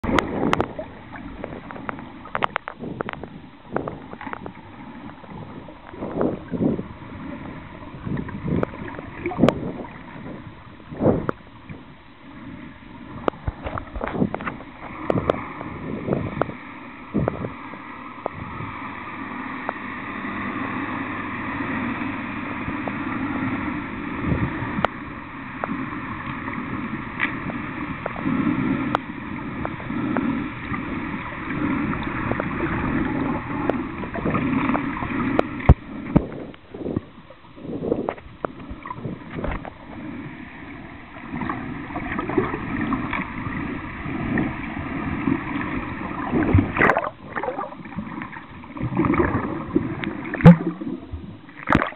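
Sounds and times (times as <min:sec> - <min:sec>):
underwater knocks and splashes: 0:00.0 - 0:12.0, 0:13.0 - 0:18.7, 0:24.2 - 0:51.9
underwater rushing hum: 0:00.0 - 0:51.9.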